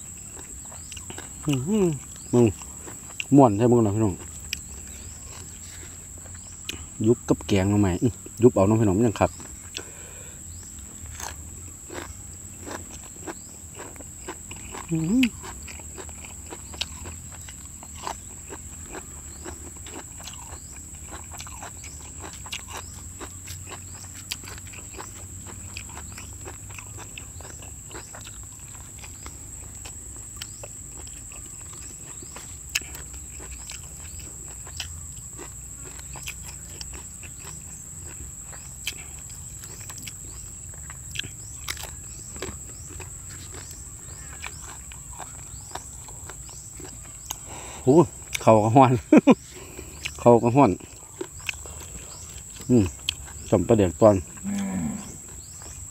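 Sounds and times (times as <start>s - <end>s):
insect trill: 0.0s - 55.9s
man chewing food: 0.0s - 55.9s.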